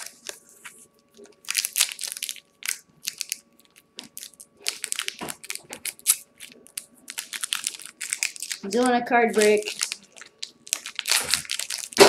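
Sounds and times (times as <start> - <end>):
wrapper tearing and crinkling: 1.2 - 12.0.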